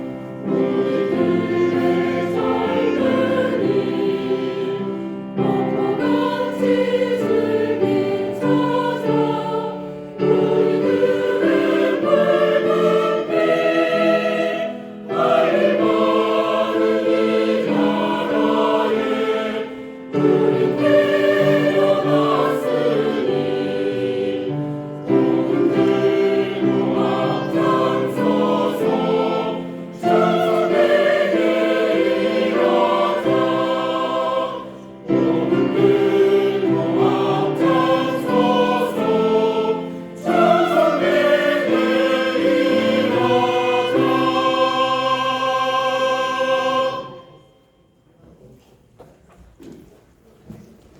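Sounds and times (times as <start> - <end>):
choir singing a hymn: 0.0 - 48.1.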